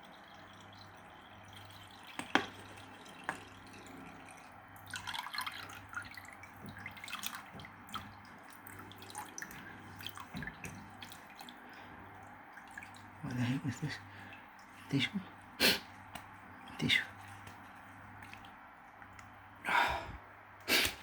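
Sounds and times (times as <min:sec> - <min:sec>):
water dripping and splashing: 0:00.0 - 0:15.0, 0:15.9 - 0:19.4
low steady hum: 0:00.0 - 0:21.0.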